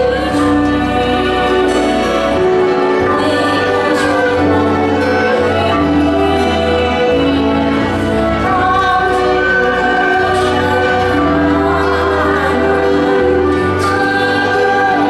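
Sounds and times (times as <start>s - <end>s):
traditional instrument ensemble playing: 0.0s - 15.0s.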